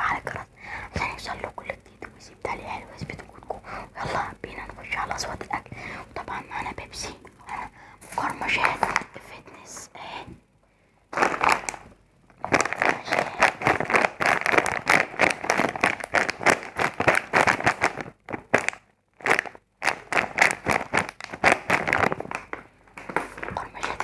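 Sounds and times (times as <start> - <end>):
rapid crackling and crinkling: 0.1 - 9.9, 11.1 - 24.0.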